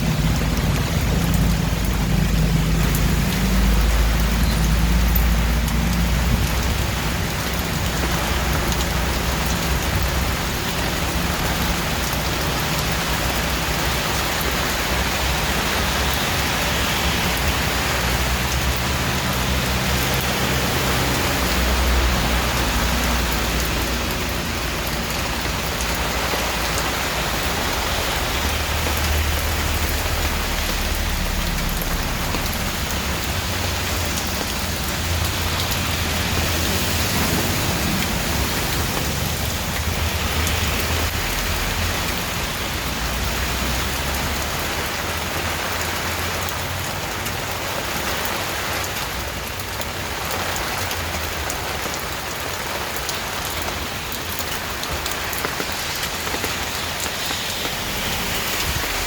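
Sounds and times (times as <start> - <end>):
heavy rain splashing: 0.0 - 59.0.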